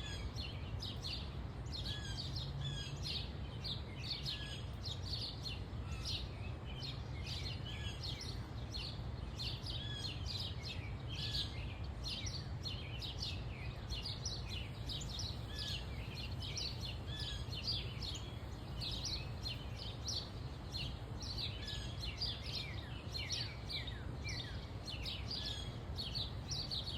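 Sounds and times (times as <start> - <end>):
songbirds chirping: 0.0 - 26.9.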